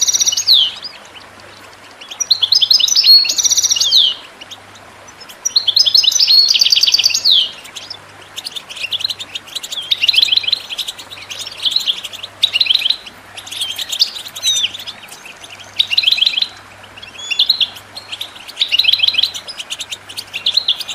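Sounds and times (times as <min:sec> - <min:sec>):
goldfinches twittering: 0:00.0 - 0:20.9.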